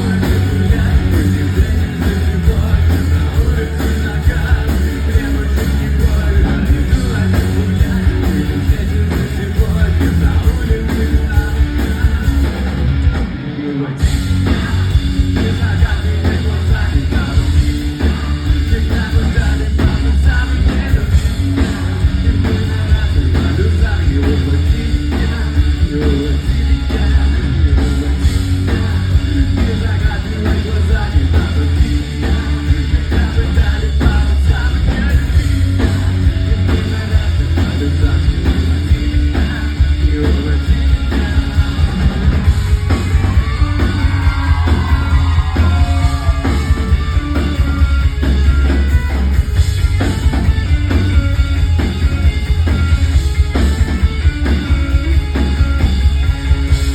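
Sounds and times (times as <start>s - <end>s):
distorted guitars: 0.0s - 56.9s
drum kit: 0.0s - 56.9s
heavy bass: 0.0s - 56.9s.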